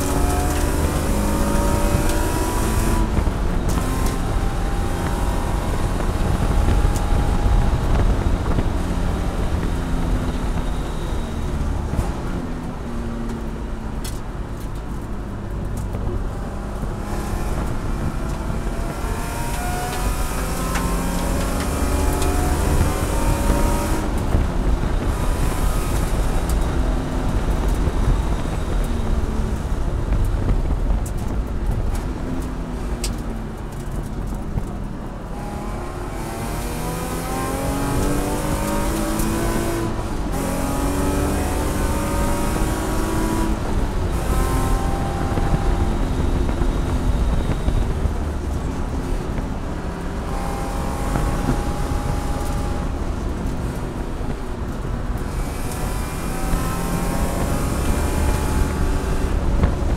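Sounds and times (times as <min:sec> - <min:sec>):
gear change: 0:00.0 - 0:59.9
race car engine at high revs: 0:00.0 - 0:59.9.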